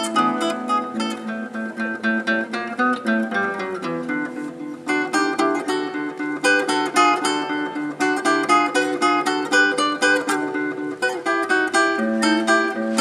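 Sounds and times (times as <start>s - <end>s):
classical guitar playing: 0.0s - 13.0s.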